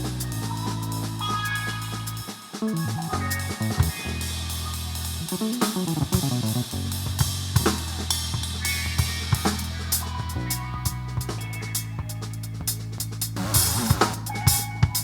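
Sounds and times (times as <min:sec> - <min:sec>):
drum kit with cymbals: 0:00.0 - 0:15.0.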